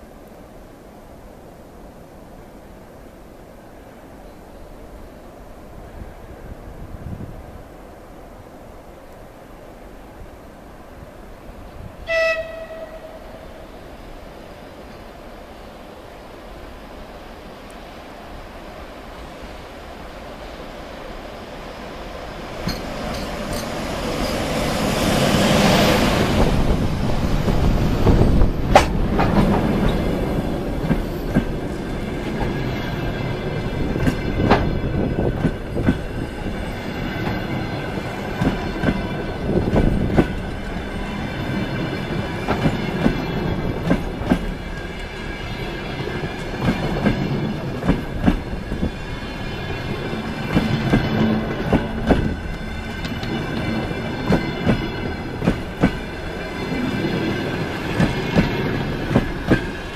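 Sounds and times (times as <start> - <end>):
train wheels rumbling on rails: 11.0 - 59.9.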